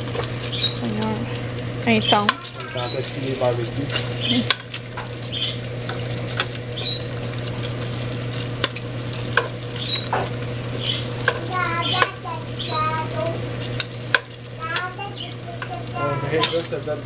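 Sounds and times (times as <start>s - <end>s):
sharp pops and crackles: 0.0s - 16.8s
food sizzling on a grill: 0.0s - 17.0s
steady low hum: 0.0s - 17.0s.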